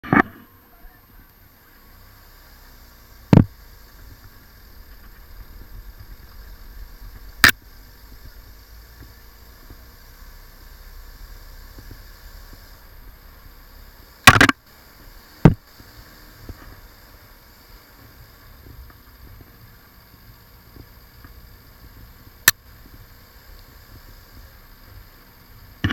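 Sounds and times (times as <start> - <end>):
faint low rumble: 0.0 - 25.9.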